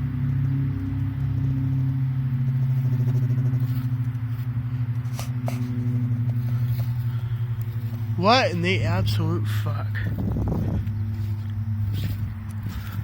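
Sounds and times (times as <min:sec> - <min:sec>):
low droning hum with flutter: 0:00.0 - 0:13.0.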